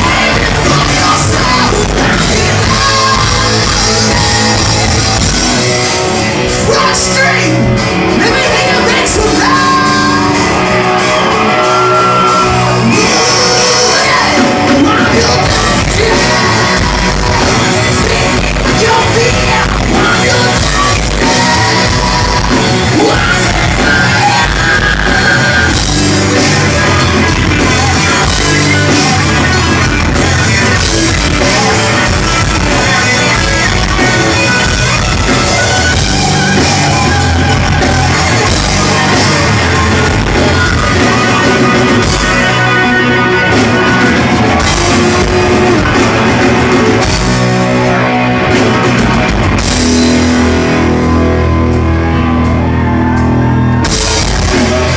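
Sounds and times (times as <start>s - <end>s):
live rock band: 0.0s - 54.9s.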